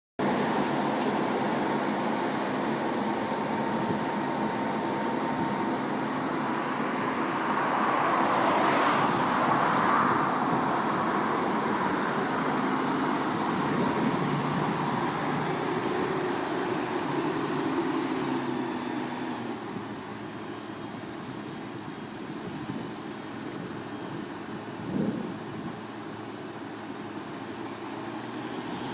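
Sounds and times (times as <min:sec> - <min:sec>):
tractor diesel engine running: 0:00.2 - 0:08.4, 0:09.0 - 0:28.9.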